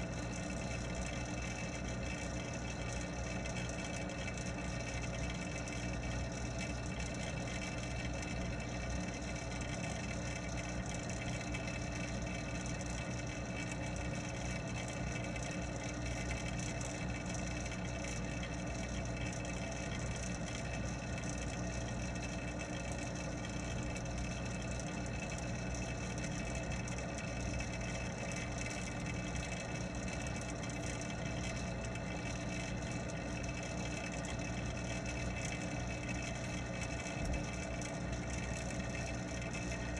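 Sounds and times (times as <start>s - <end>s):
pond pump humming underwater: 0.0s - 39.9s.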